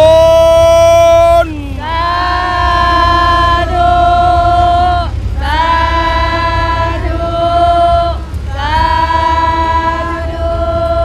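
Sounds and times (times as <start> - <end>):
steady low hum: 0.0 - 11.0
choir-like singing: 1.8 - 11.0.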